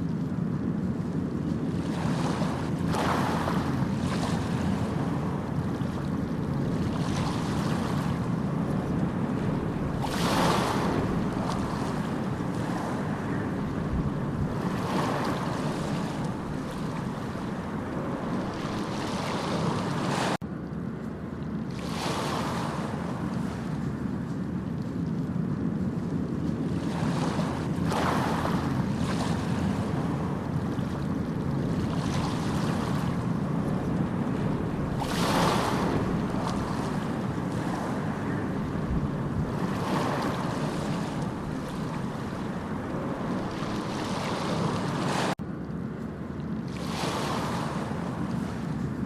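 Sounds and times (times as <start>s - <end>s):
sea waves washing in: 0.0s - 20.4s, 21.5s - 45.5s, 46.2s - 49.0s.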